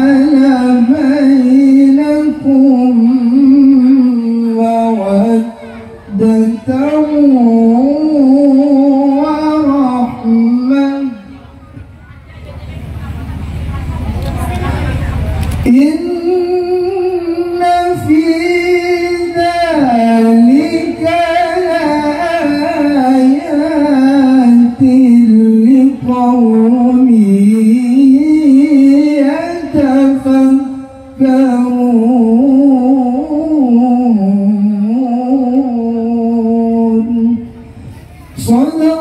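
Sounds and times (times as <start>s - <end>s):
man chanting into a microphone: 0.0s - 11.6s, 15.6s - 39.0s.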